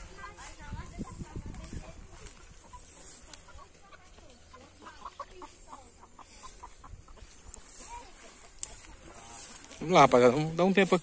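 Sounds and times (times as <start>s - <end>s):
chicken clucking: 0.0s - 11.0s.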